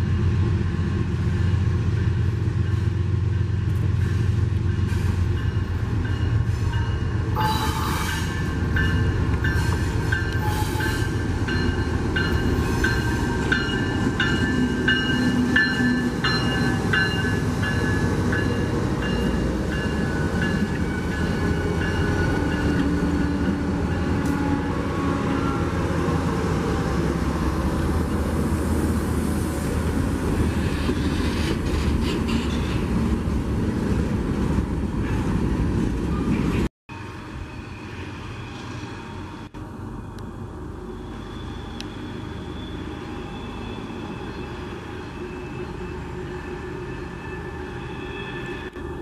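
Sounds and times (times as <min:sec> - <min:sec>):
freight train cars rolling: 0:00.0 - 0:49.0.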